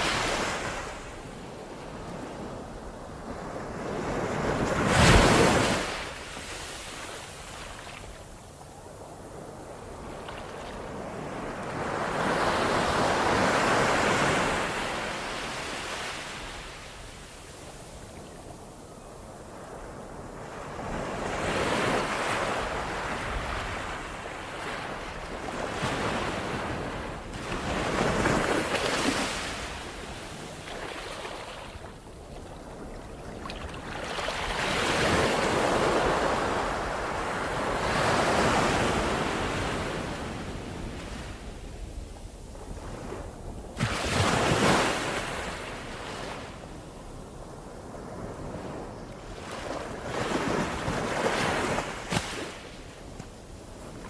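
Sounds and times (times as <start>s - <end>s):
ocean waves breaking on shore: 0.0s - 54.0s
wind on microphone: 0.0s - 54.0s.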